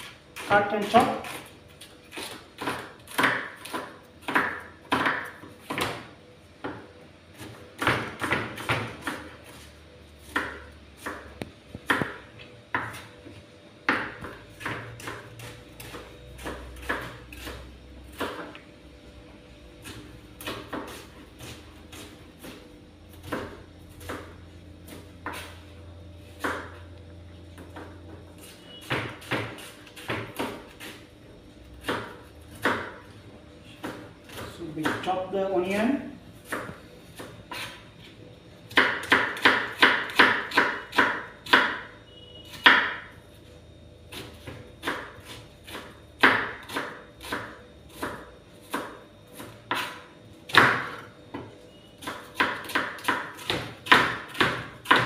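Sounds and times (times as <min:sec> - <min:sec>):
knife chopping on plastic board: 0:00.0 - 0:09.6, 0:10.2 - 0:13.1, 0:13.8 - 0:18.6, 0:19.8 - 0:22.6, 0:23.2 - 0:25.6, 0:26.4 - 0:26.8, 0:27.6 - 0:31.0, 0:31.8 - 0:33.0, 0:33.7 - 0:35.2, 0:36.4 - 0:37.8, 0:38.7 - 0:41.9, 0:44.1 - 0:55.0.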